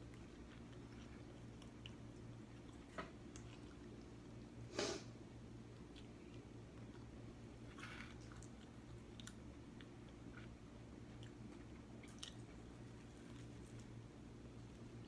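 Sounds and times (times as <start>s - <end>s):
person chewing food: 0.0s - 4.5s, 5.3s - 15.0s
low steady hum: 0.0s - 15.0s.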